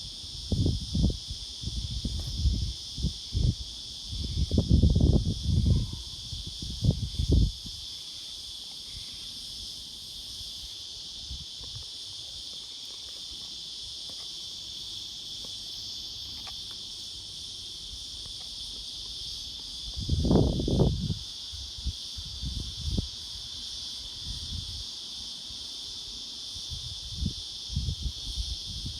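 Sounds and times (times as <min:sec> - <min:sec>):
cicada buzzing: 0:00.0 - 0:28.9.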